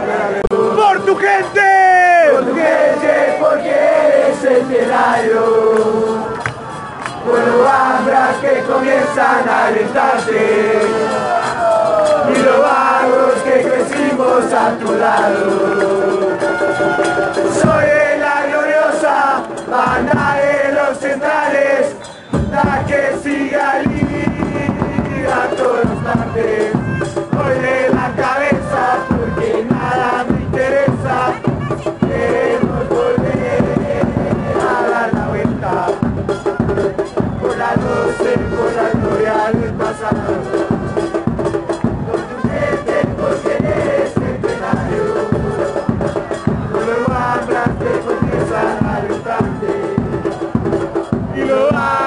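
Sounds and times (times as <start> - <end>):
crowd chanting in unison: 0.0 - 52.0
drums beating: 0.0 - 52.0.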